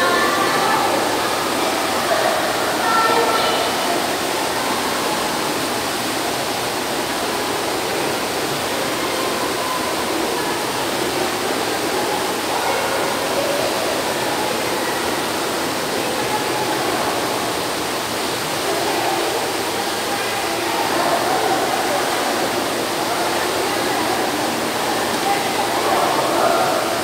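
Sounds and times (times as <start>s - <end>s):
splashing water in swimming pool: 0.1s - 27.0s.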